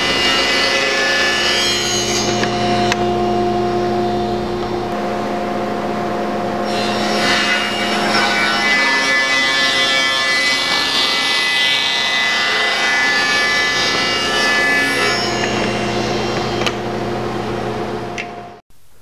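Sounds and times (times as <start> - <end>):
table saw cutting board: 0.0 - 18.6.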